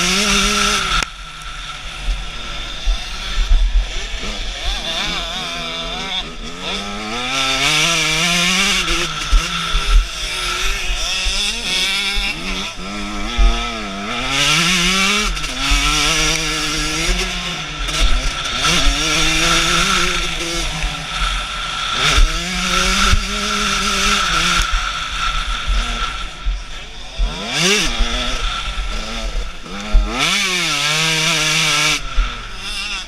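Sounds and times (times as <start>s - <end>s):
motocross engine revving: 0.0s - 33.0s.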